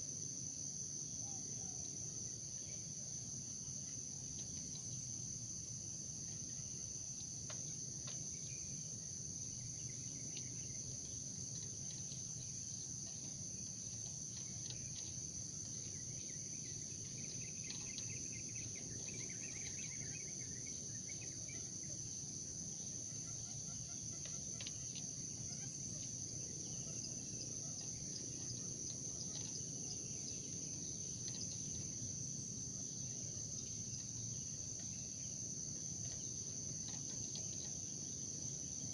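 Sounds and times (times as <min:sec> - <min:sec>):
crickets and insects chirring: 0:00.0 - 0:38.9.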